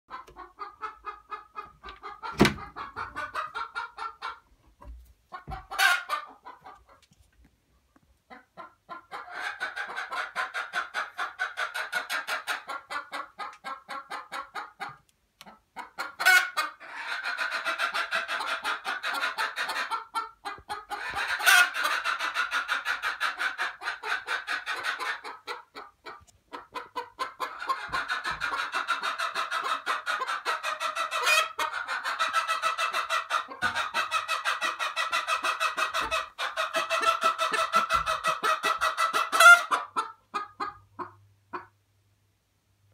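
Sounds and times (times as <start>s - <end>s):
hens clucking: 0.1s - 41.8s.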